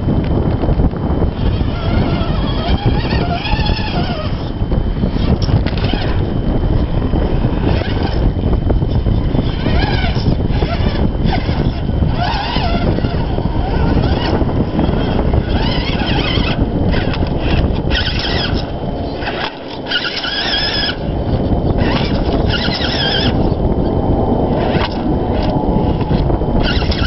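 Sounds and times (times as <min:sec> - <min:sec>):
electric motor and gears whining: 0:00.0 - 0:27.0.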